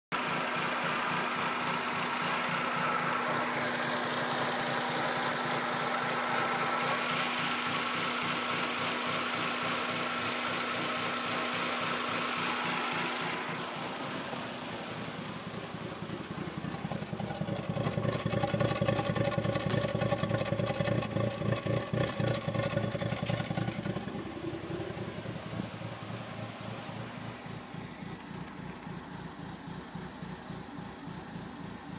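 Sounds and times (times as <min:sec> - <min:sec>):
car engine idling roughly: 0:00.1 - 0:31.9.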